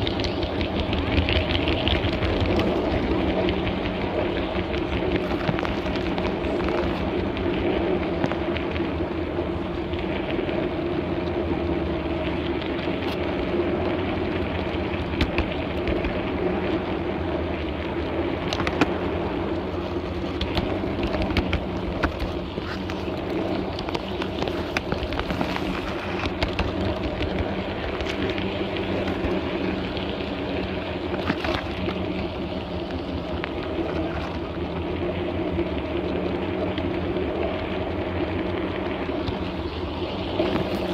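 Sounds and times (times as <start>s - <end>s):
model train running gear hum: 0.0s - 40.9s
wheels clicking on rails: 0.0s - 40.9s.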